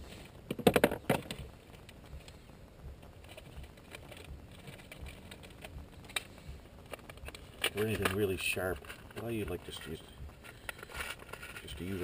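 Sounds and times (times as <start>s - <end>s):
low rumble: 1.3s - 12.0s.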